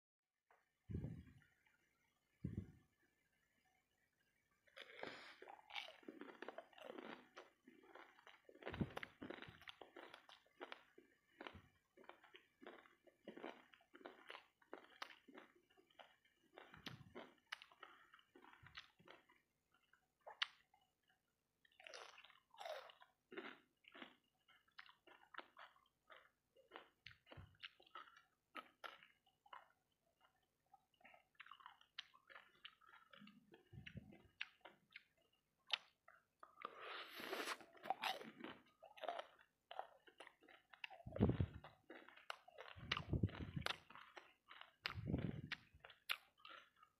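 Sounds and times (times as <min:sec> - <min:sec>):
crunchy chewing: 0:04.7 - 0:46.9.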